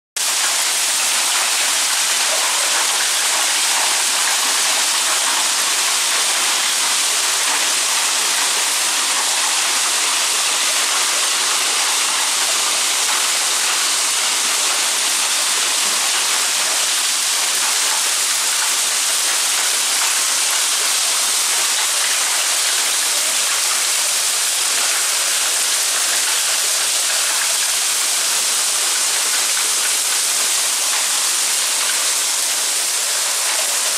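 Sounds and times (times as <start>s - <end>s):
hail falling on tiles: 0.2s - 33.9s.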